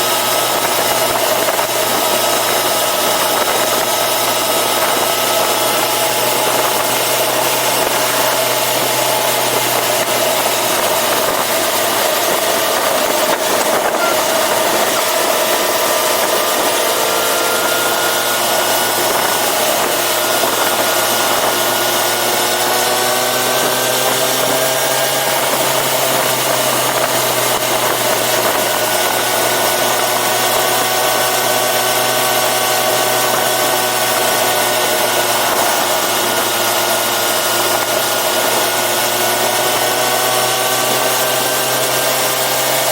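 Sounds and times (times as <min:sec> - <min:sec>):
motorcycle engine running: 0:00.0 - 0:42.9
steady rushing noise: 0:00.0 - 0:42.9.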